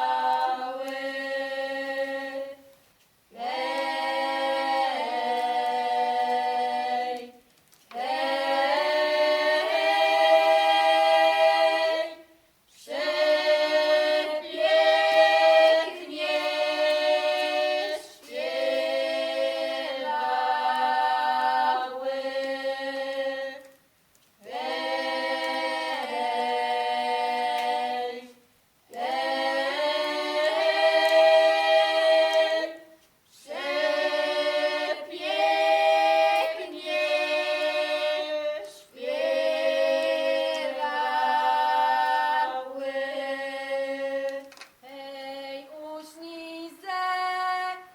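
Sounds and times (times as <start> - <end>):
a cappella choir singing: 0.0 - 23.8, 24.4 - 47.9.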